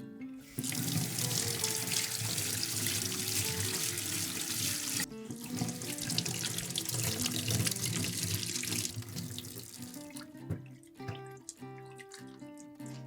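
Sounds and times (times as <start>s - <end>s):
soft background music: 0.0s - 13.0s
tap water running into sink: 0.4s - 13.0s.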